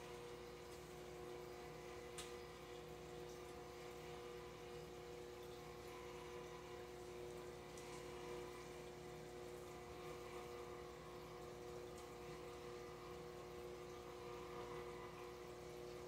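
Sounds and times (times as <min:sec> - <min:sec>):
aquarium bubbling: 0:00.0 - 0:16.0
low pump hum: 0:00.0 - 0:16.0.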